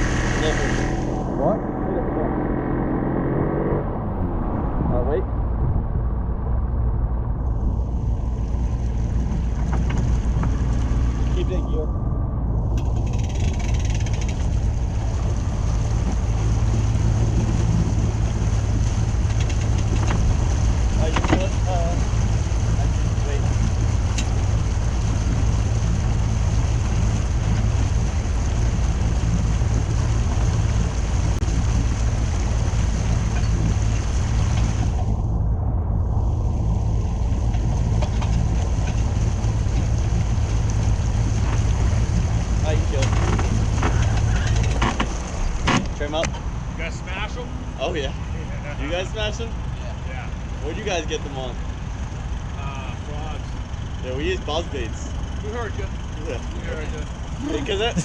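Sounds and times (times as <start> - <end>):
wind buffeting microphone: 0.0 - 46.8
outboard motor drone: 0.0 - 58.0
water rushing past hull: 0.0 - 58.0.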